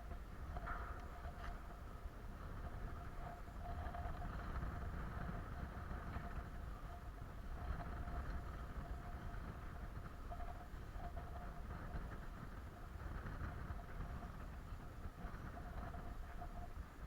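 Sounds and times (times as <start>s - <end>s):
faint steady hum: 0.0s - 17.0s
wind rumbling on microphone: 0.0s - 17.0s.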